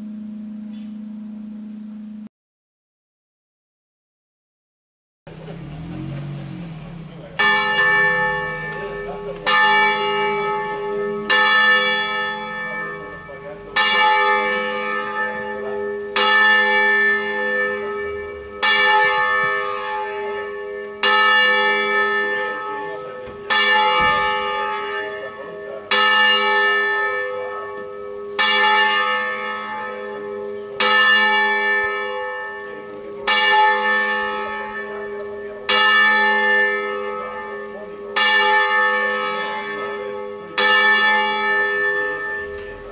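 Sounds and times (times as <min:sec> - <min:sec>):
church bell ringing: 0:00.0 - 0:01.7, 0:05.3 - 0:42.9.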